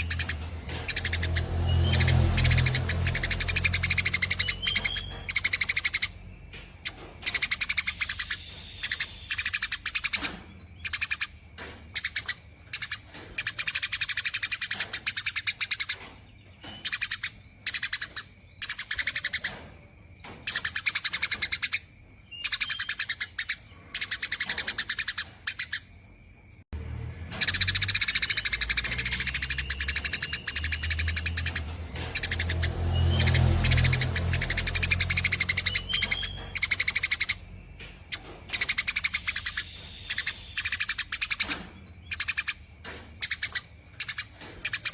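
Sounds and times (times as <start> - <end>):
sparrow chattering: 0.0 - 26.0, 27.3 - 44.9.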